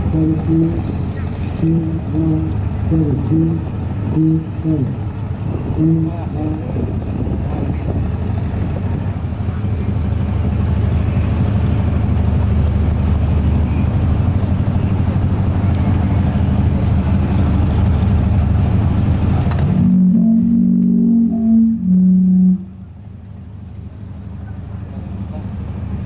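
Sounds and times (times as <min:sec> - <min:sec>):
large engine droning: 0:00.0 - 0:26.0.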